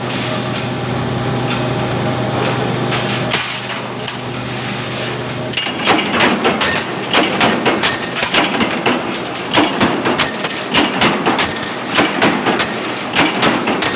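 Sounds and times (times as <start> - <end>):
steady mechanical din: 0.0 - 13.9
minting press stamping clanks: 1.5 - 13.9.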